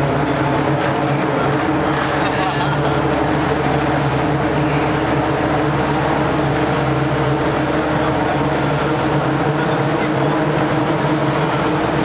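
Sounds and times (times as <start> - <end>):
large engine droning: 0.0 - 12.0.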